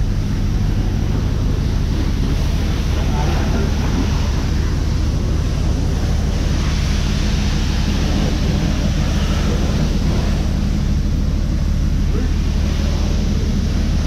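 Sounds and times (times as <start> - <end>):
low drone: 0.0 - 14.0
pressure washer spray hissing: 0.1 - 14.0.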